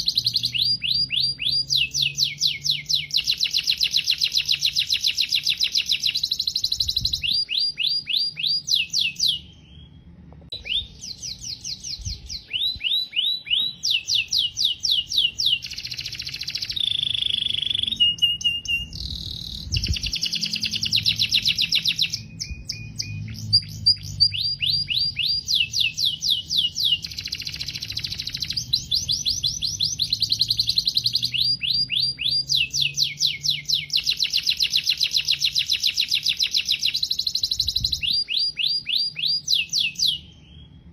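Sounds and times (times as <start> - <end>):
canary singing trilled song: 0.0 - 40.9.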